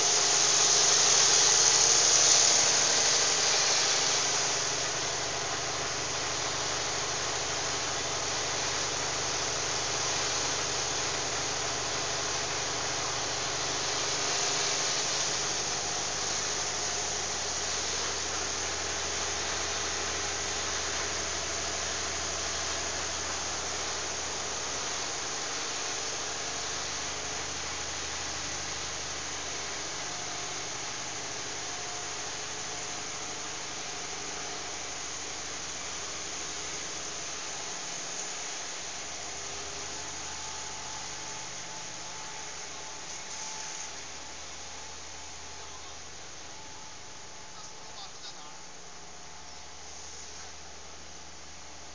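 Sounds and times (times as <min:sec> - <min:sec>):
generator humming: 0:00.0 - 0:51.9
loud even hiss: 0:00.0 - 0:51.9.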